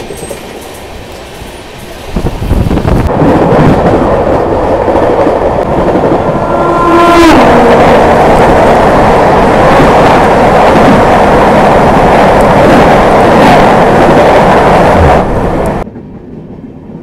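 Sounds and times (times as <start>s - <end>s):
passing train rushing roar: 0.0s - 17.0s.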